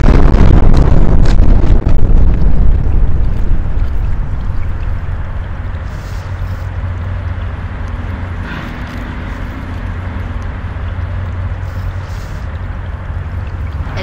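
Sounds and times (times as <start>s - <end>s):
deep steady rumble: 0.0s - 14.0s.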